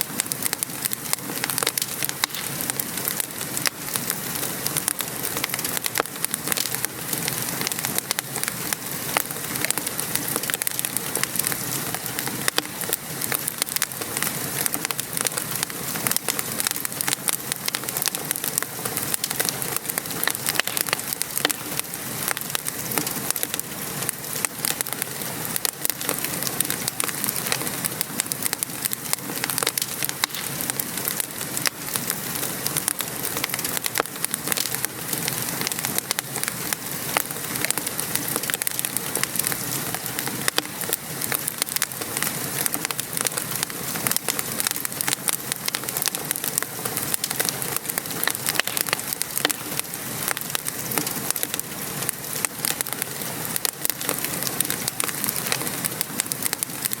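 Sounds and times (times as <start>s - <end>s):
fireplace fire crackling: 0.0s - 57.0s
steady rain falling: 0.0s - 57.0s.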